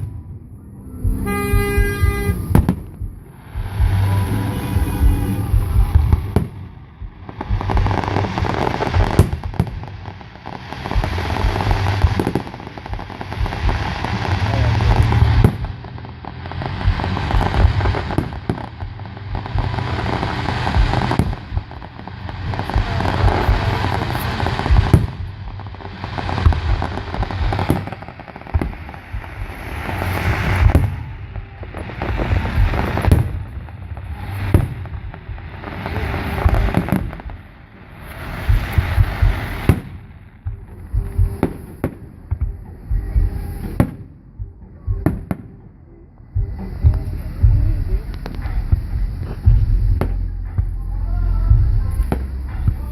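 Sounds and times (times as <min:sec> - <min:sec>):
fireworks crackling: 0:00.0 - 0:52.9
sharp firework pops: 0:01.0 - 0:44.1, 0:46.5 - 0:52.9.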